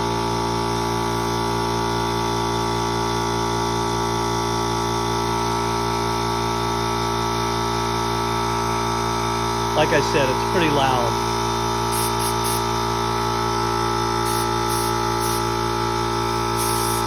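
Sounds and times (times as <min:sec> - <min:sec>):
electric air compressor running: 0:00.0 - 0:17.0.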